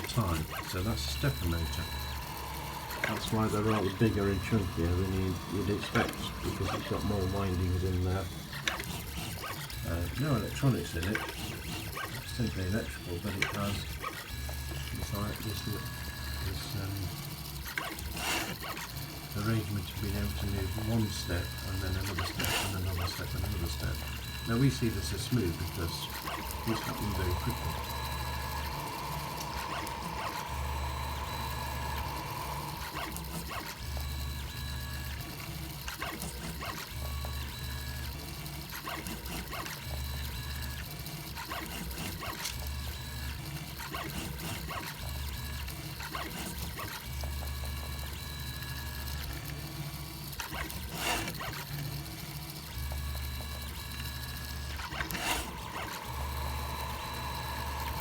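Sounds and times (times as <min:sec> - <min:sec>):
stepper motors humming and whining: 0:00.0 - 0:58.0.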